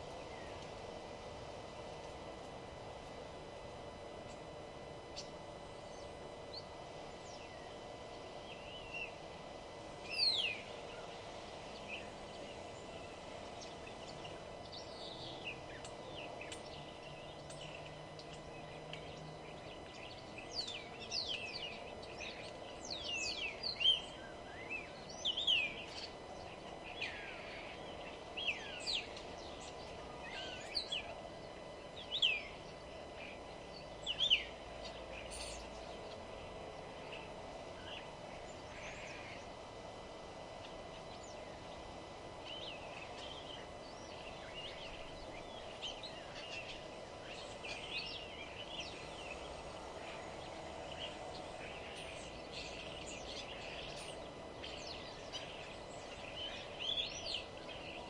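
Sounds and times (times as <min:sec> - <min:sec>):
small birds chirping: 0:00.0 - 0:02.2, 0:03.5 - 0:58.0
steady background hum: 0:00.0 - 0:58.0.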